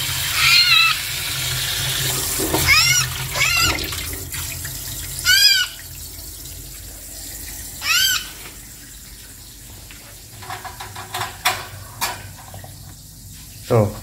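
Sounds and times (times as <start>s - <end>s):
water running from tap: 0.0s - 14.0s.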